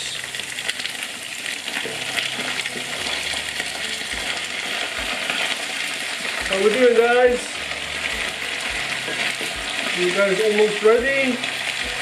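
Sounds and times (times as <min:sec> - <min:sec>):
fries sizzling in hot oil: 0:00.0 - 0:12.0.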